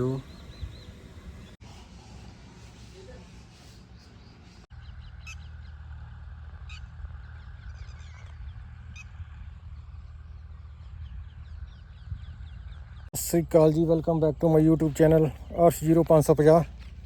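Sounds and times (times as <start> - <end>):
birds chirping: 0.0 - 17.0
steady low rumble: 0.0 - 17.0.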